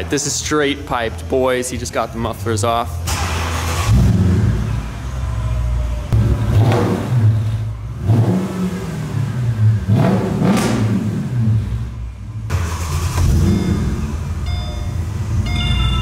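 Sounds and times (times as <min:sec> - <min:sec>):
car engine revving: 0:02.4 - 0:16.0.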